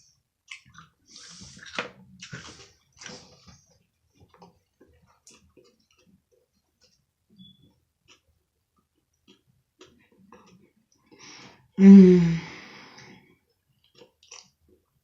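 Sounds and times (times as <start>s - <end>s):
person chewing a sandwich: 0.1s - 11.8s, 13.3s - 15.0s.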